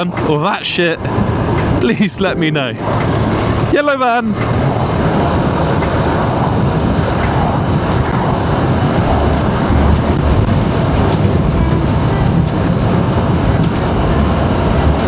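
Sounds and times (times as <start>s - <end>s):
wind rush on helmet microphone: 1.0s - 2.1s, 2.8s - 15.0s
motorcycle road noise: 2.6s - 15.0s.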